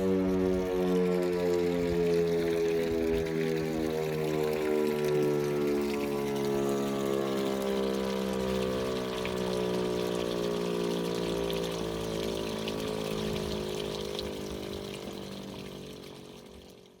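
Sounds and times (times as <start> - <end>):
electromechanical siren winding down: 0.0 - 16.9.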